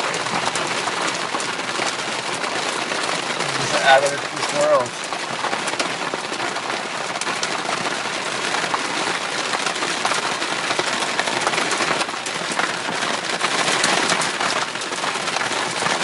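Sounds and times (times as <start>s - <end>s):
heavy rain on car: 0.0s - 16.0s.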